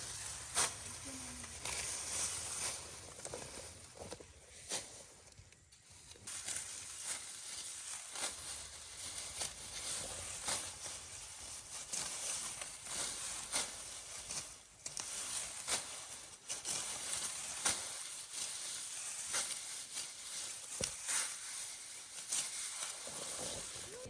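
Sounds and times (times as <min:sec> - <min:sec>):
dry plant stalks rustling: 0:00.0 - 0:24.0.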